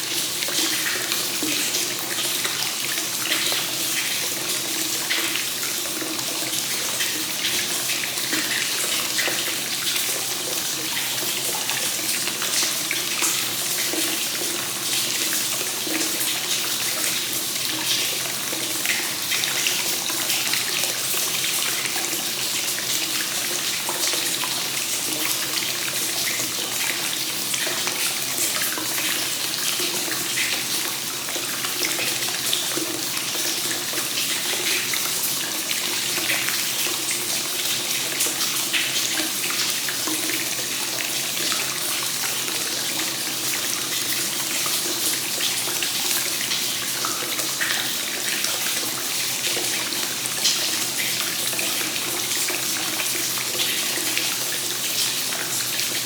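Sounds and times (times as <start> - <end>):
water pouring into a bath: 0.0 - 56.0.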